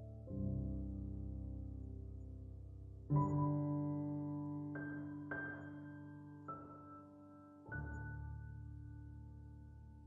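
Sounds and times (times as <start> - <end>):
melancholic piano tune: 0.0 - 10.0.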